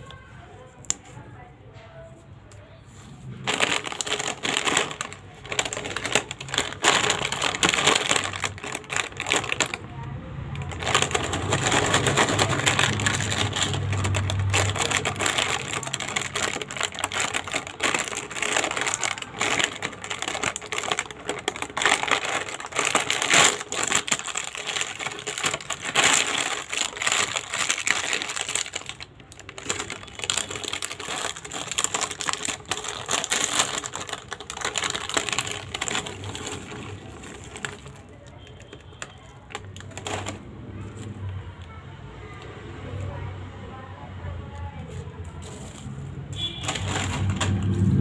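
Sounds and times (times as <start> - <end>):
plastic packet crinkling: 3.2 - 41.7, 45.0 - 48.0.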